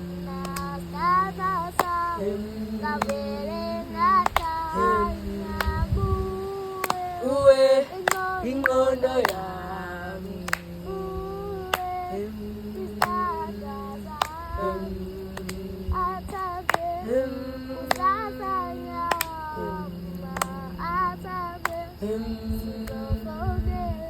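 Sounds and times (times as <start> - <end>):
held steady notes: 0.0 - 24.0
high voice singing a melody: 0.0 - 24.0.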